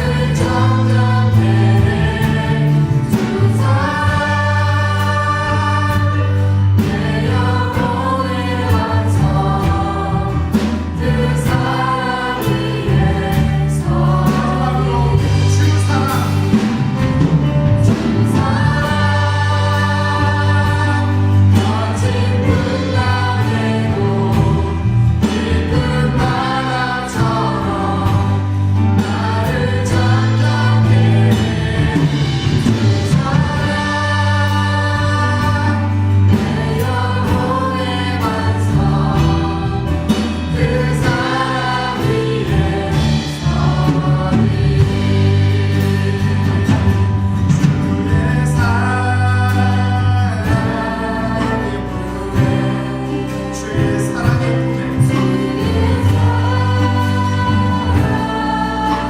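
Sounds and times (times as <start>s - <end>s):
voices singing over a band: 0.0s - 59.0s.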